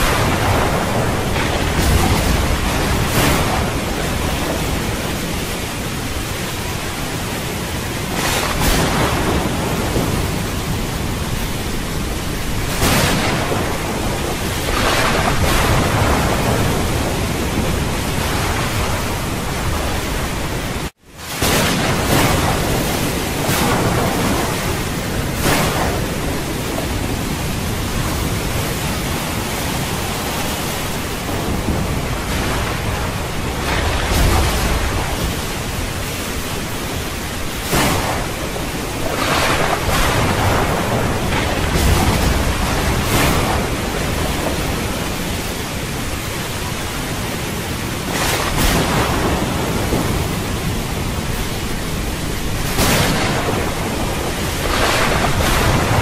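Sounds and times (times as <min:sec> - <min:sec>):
surf: 0:00.0 - 0:56.0
wind on microphone: 0:00.0 - 0:56.0.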